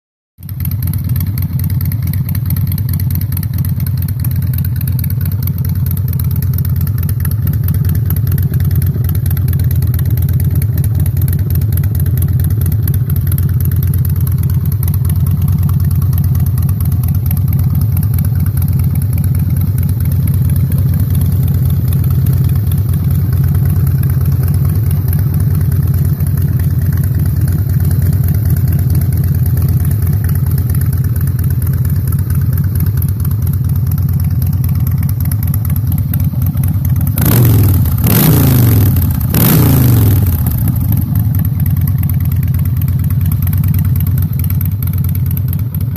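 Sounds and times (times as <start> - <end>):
motorcycle engine idling: 0.4 - 45.9.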